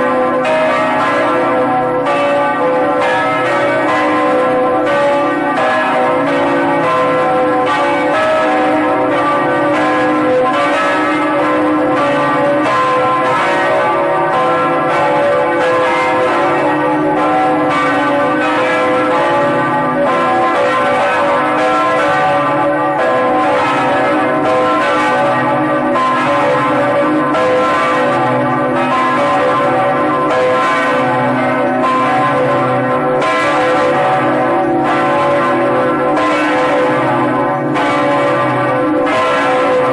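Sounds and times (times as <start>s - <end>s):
large bells pealing: 0.0s - 39.9s.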